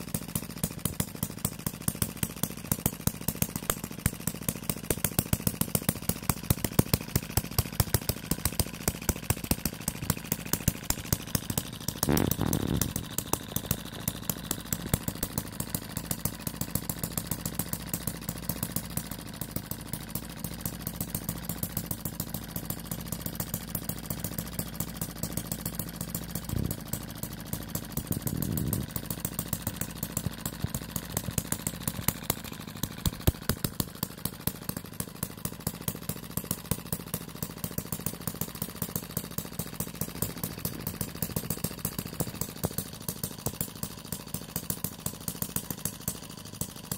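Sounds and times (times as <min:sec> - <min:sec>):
small petrol engine running: 0:00.0 - 0:46.9.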